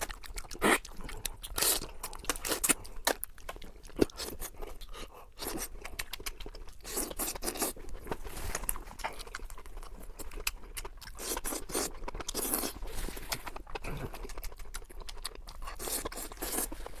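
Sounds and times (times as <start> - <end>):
person crunching and chewing: 0.0 - 17.0.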